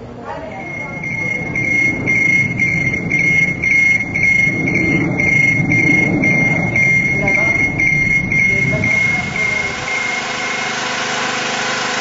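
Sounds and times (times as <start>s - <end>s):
low steady rumble: 0.0s - 10.6s
electronic warning beeper: 0.3s - 12.0s.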